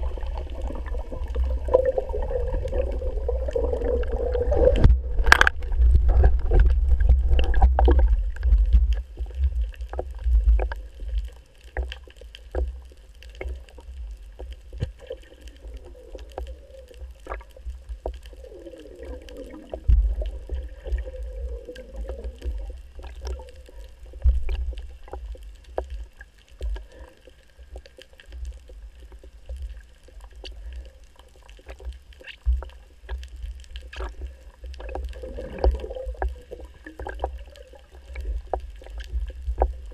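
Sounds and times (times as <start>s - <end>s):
underwater clicks and knocks: 0.0s - 18.3s, 19.1s - 27.0s, 31.5s - 39.9s
muffled underwater rumble: 0.0s - 39.9s.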